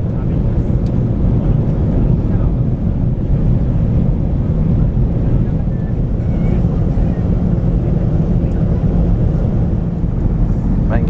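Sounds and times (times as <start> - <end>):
airliner cabin roar: 0.0 - 11.0.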